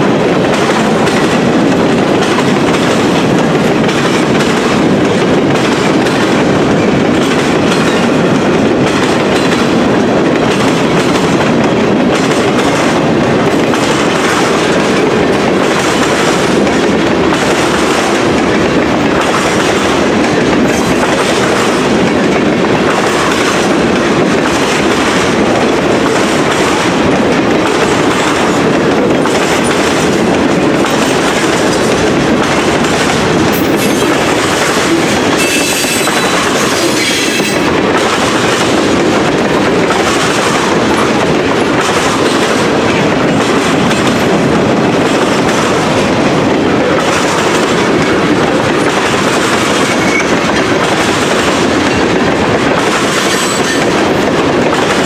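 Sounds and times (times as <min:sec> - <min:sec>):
freight train rumbling: 0:00.0 - 0:55.0
wheels clacking over rail joints: 0:00.0 - 0:55.0.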